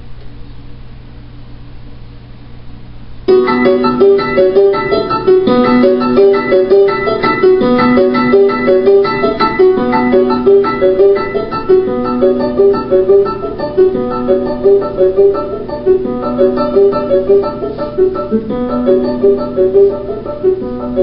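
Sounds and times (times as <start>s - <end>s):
piano music: 3.3s - 21.0s.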